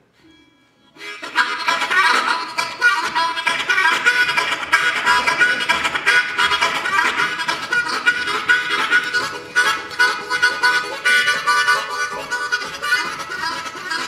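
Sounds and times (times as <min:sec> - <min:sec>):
harmonica riff: 0:00.1 - 0:14.0.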